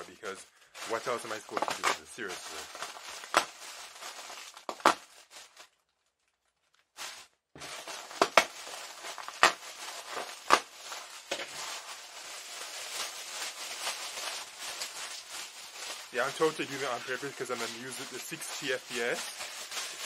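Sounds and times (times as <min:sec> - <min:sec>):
snack packaging crinkling: 0:00.7 - 0:20.0.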